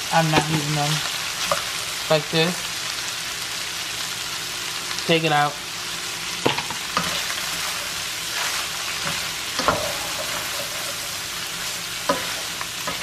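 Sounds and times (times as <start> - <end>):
cabbage sizzling in a skillet: 0.0 - 13.0.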